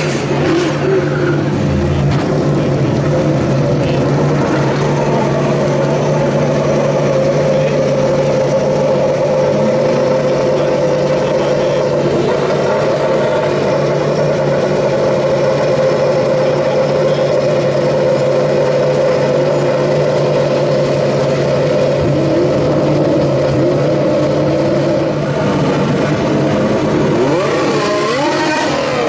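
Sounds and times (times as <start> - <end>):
racing car engine idling and revving: 0.0 - 29.0.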